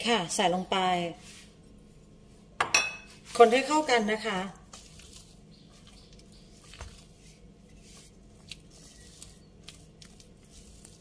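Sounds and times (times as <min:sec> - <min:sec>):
batter squishing: 0:01.2 - 0:11.0.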